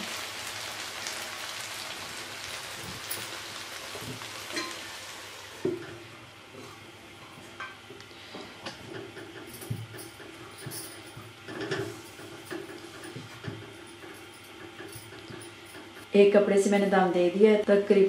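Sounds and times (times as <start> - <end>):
rice sizzling in a pot: 0.0 - 16.7.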